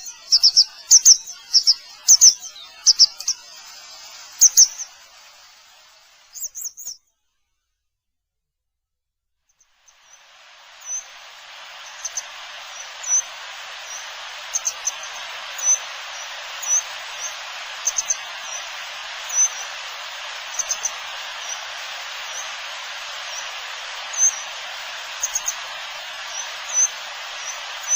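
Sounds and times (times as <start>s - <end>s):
steady hiss: 0.0s - 7.1s, 9.5s - 27.9s.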